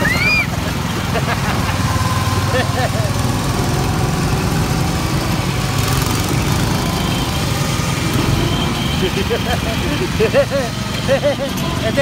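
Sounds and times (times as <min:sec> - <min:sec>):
go-kart engine droning: 0:00.0 - 0:12.0.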